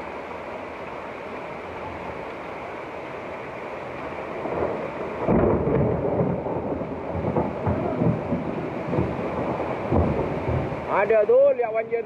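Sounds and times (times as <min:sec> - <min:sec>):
heavy rainstorm: 0:00.0 - 0:12.0.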